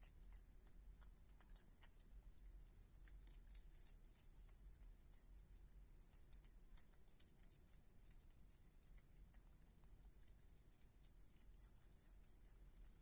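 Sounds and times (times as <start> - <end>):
animal chewing wet food: 0.0 - 13.0.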